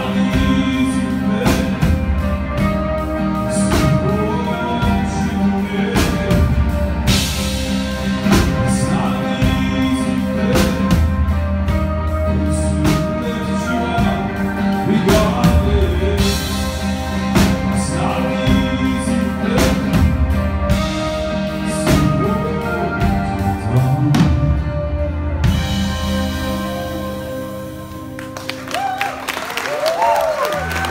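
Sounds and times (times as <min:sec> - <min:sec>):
man singing: 0:00.0 - 0:25.1
bass: 0:00.0 - 0:30.9.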